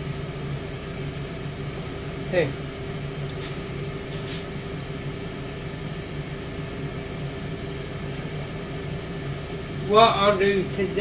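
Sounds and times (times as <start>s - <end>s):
air fryer fan humming: 0.0s - 11.0s.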